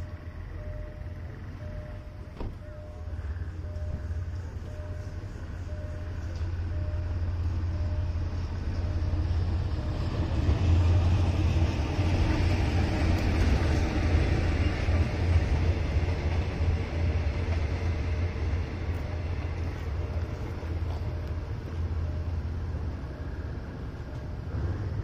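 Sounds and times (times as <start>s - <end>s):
train coaches rumbling on rails: 0.0s - 25.0s.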